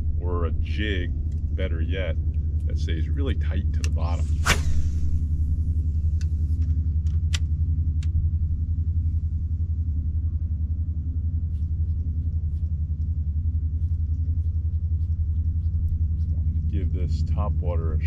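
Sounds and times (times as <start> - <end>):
low mechanical motor rumble: 0.0 - 18.0.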